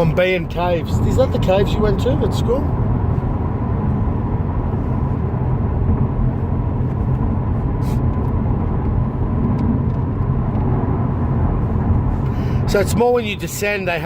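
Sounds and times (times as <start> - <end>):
tyre road noise rumble: 0.0 - 14.0.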